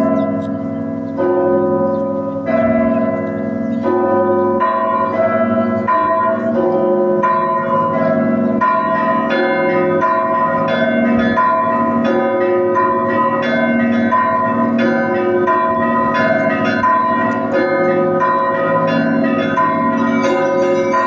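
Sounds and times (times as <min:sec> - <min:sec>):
church bells pealing: 0:00.0 - 0:21.0.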